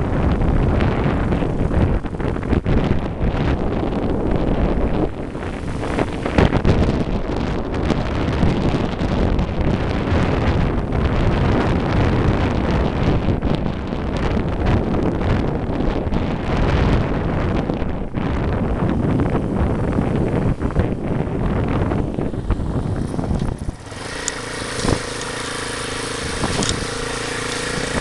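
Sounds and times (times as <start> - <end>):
vehicle ride rumble: 0.0 - 28.0
wind buffeting microphone: 0.0 - 28.0.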